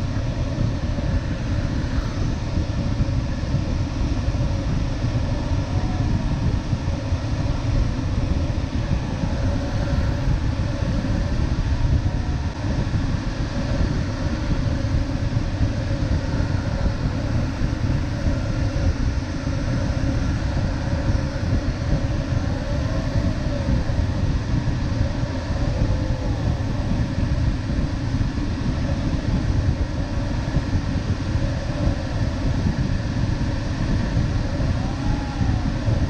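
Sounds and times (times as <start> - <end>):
airflow rushing over glider: 0.0 - 36.0.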